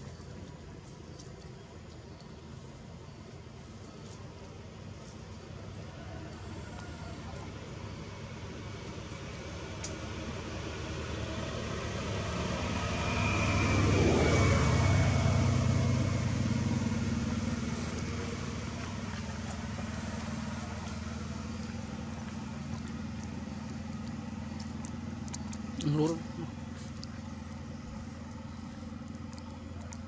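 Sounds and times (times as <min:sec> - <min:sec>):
low engine hum: 0:00.0 - 0:30.0
motor vehicle passing by: 0:05.2 - 0:30.0.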